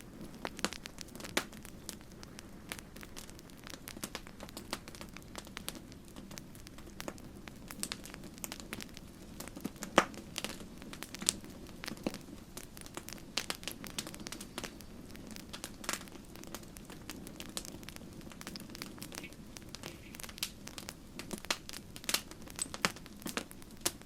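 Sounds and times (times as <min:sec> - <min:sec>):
campfire crackling and popping: 0:00.0 - 0:24.0
low rumble of fire: 0:00.0 - 0:24.0.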